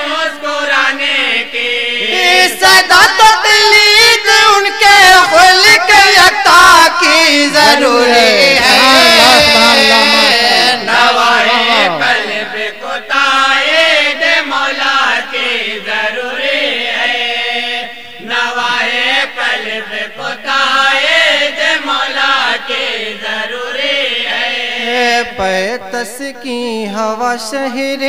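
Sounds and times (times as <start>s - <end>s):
men chanting in chorus: 0.0s - 28.0s.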